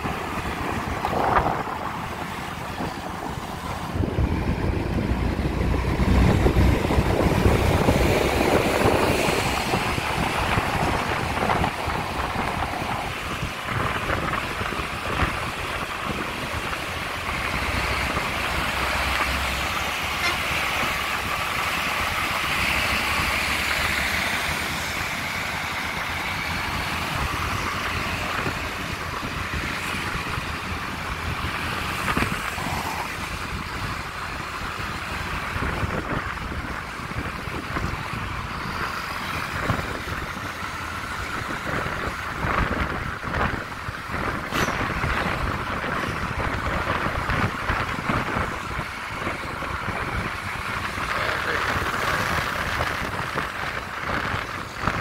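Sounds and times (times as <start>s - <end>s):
vehicle engines and tyres rumbling: 0.0s - 55.0s
wind buffeting microphone: 0.0s - 55.0s.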